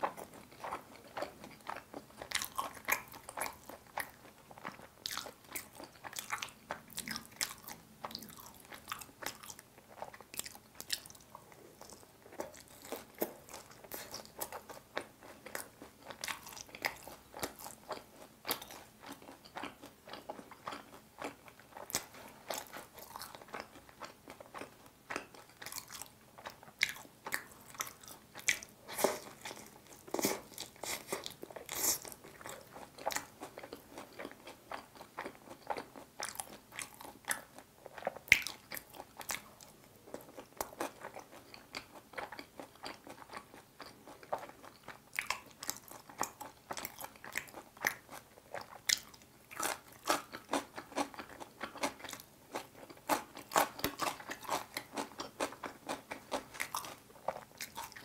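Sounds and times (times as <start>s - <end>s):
chewing crunchy fried chicken: 0.0s - 58.0s.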